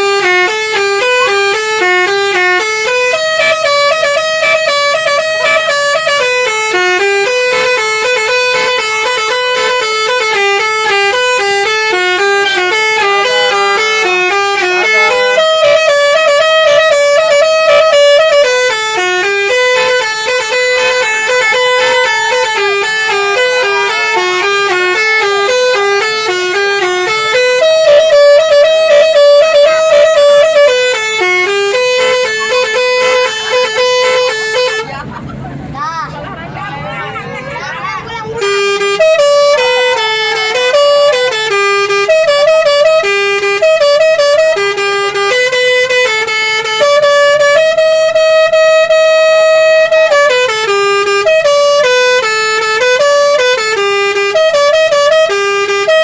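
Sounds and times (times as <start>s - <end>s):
multi-tone bus horn melody: 0.0s - 56.0s.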